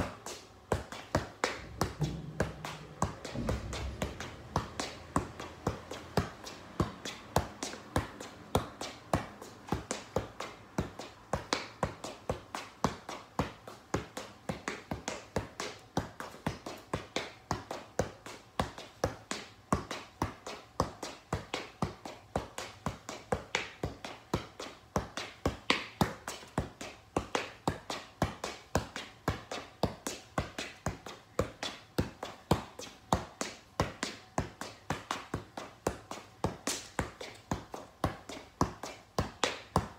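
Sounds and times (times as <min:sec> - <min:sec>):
soccer ball taps: 0:00.0 - 0:39.9.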